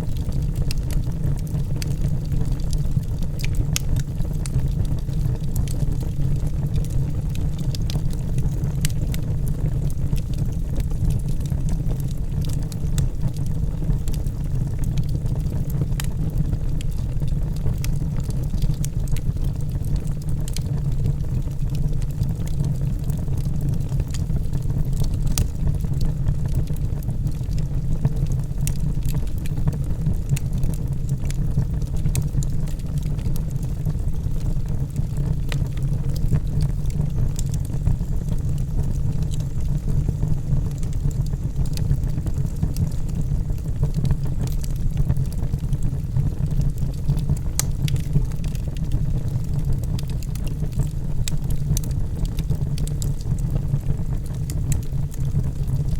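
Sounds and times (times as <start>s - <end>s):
fire crackles and pops: 0.0s - 55.9s
low roar of flames: 0.0s - 55.9s.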